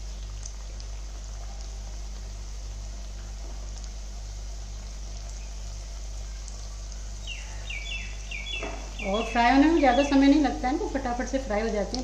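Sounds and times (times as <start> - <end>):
deep-frying sizzle: 0.0 - 12.0
low steady hum: 0.0 - 12.0.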